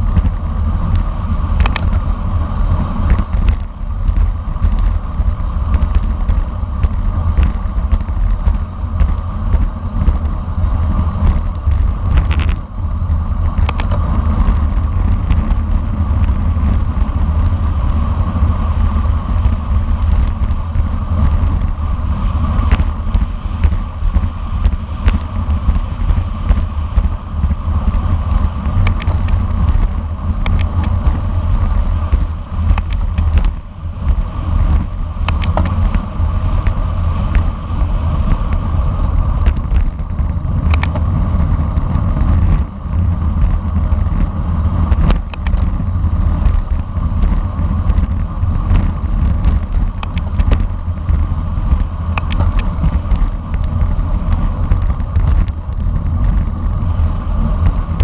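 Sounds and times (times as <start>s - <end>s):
tyre and road noise: 0.0s - 58.0s
wind buffeting microphone: 0.0s - 58.0s.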